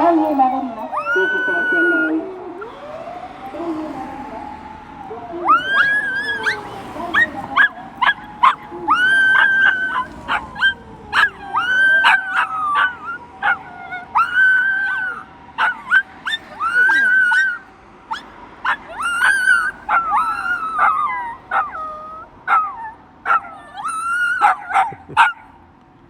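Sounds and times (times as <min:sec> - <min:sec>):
faint ambulance siren wail: 0:00.0 - 0:25.3
dog howling: 0:00.0 - 0:25.4.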